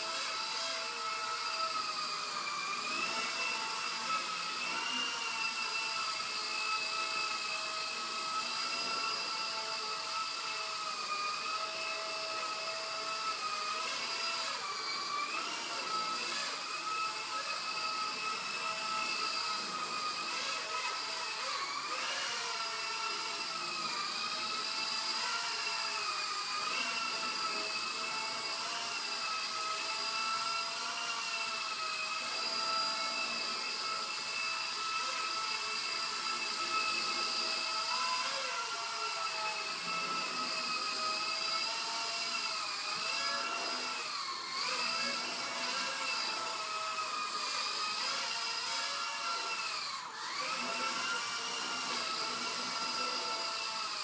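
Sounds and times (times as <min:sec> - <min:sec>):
rc helicopter motor whining: 0:00.0 - 0:54.0.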